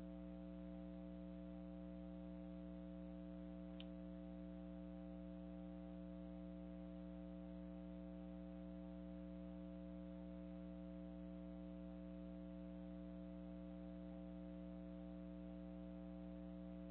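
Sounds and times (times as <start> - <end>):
faint electrical hum: 0.0 - 16.9.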